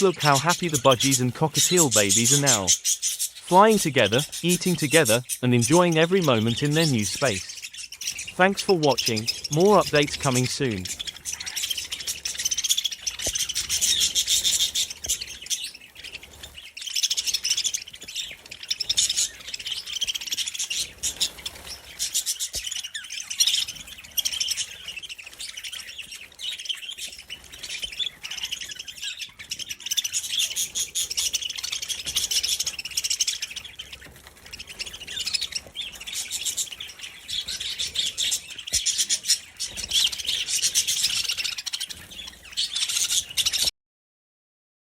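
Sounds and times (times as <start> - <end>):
budgies chattering and chirping: 0.0 - 43.7.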